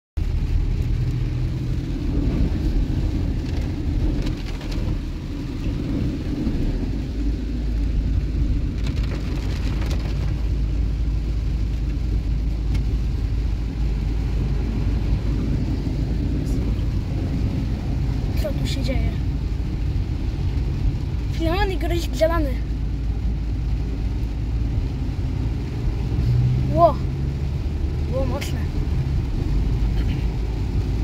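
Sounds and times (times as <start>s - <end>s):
car road and engine rumble: 0.2s - 31.0s
rain beating on car roof: 0.2s - 31.0s.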